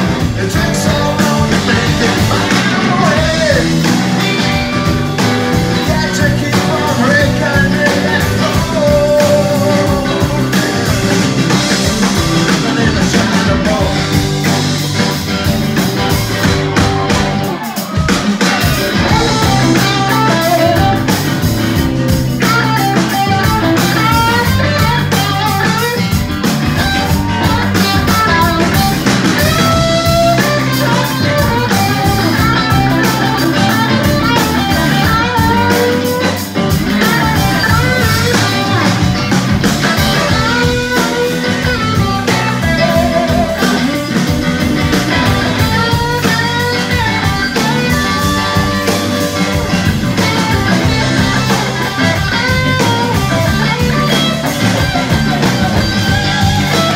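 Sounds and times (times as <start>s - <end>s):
drum kit: 0.0s - 56.9s
electric bass: 0.0s - 56.9s
electric guitar lead lines: 0.0s - 56.9s.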